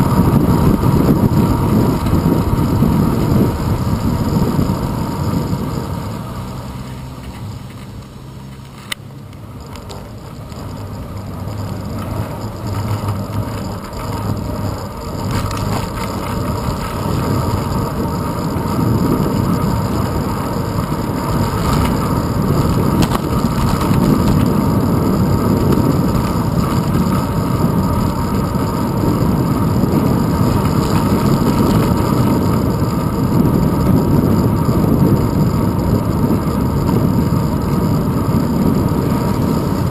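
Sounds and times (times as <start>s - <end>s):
bicycle road rumble: 0.0s - 39.9s
car traffic: 0.0s - 39.9s
wind noise: 0.0s - 39.9s.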